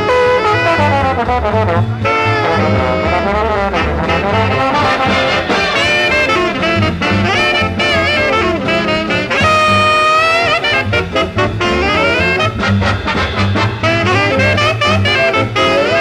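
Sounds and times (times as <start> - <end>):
big band swing jazz: 0.0 - 16.0
held bending brass note: 0.0 - 16.0.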